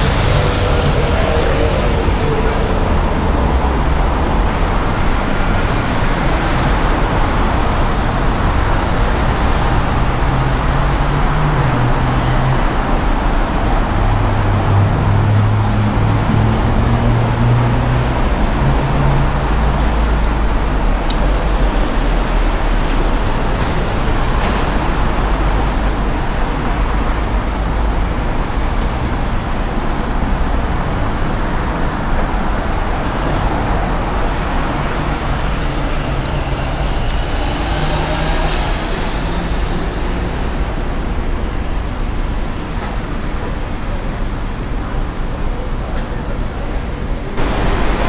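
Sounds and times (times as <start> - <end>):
road traffic rumble: 0.0 - 48.0.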